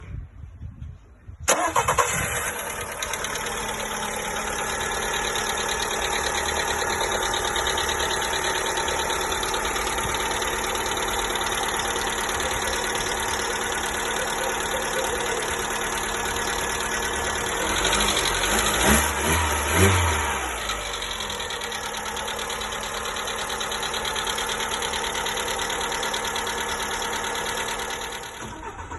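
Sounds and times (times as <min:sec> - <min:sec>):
engine cranking and starting: 0:01.4 - 0:28.9
engine idling with fast tapping: 0:01.6 - 0:28.9.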